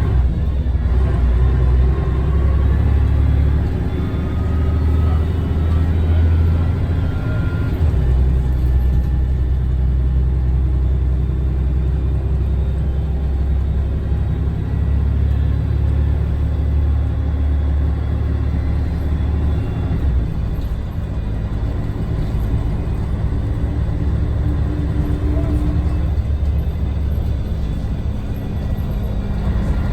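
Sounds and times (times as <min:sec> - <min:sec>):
bus diesel engine droning: 0:00.0 - 0:29.9.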